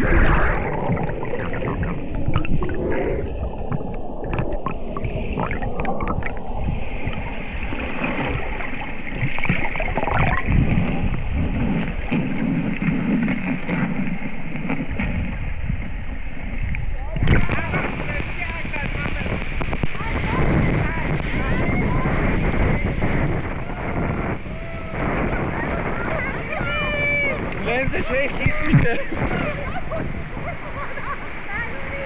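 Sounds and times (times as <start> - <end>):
bubbles gurgling: 0.0 - 30.8
muffled underwater waterfall rush: 0.0 - 32.0.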